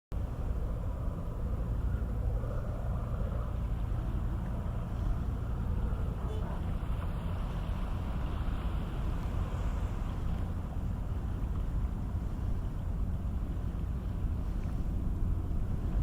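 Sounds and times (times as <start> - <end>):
ferry engines rumbling: 0.1 - 16.0.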